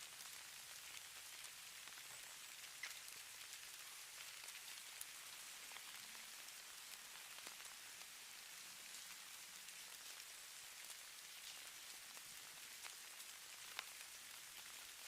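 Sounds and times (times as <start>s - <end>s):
falling snow patter: 0.0s - 15.0s.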